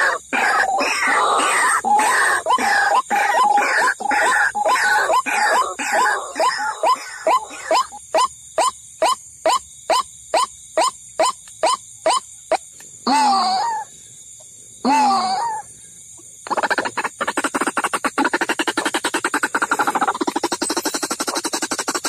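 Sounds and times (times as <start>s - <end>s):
waterhen calls: 0.0s - 12.2s, 16.5s - 22.0s.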